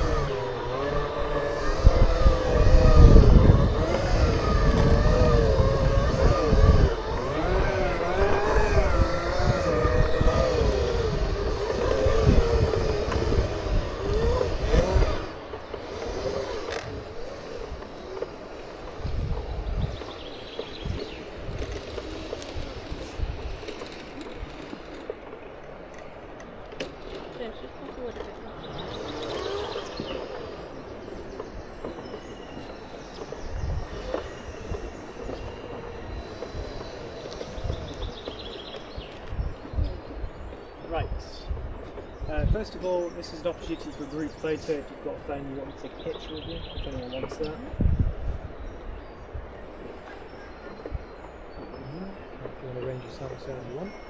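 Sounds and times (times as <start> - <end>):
electric drive whining: 0.0 - 54.0
wind rumble on microphone: 0.0 - 54.0.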